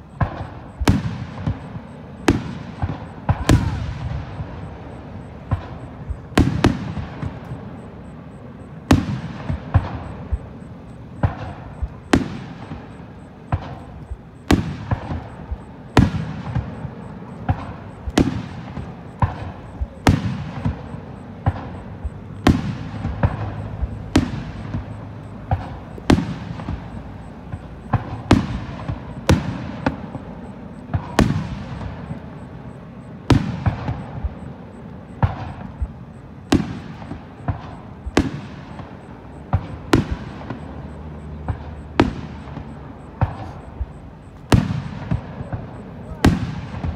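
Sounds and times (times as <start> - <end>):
firework shells booming: 0.0 - 46.9.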